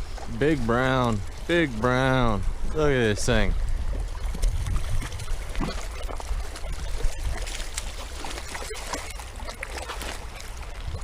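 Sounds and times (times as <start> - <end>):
wind buffeting microphone: 0.0 - 8.8
river water splashing: 0.0 - 11.0.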